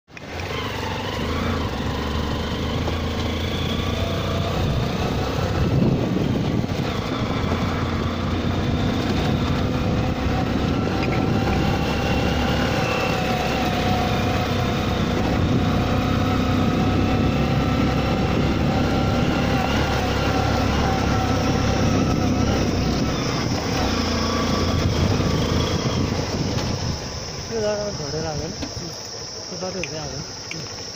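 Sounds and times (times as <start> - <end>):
vehicle engine rumbling with whine: 0.1 - 30.9.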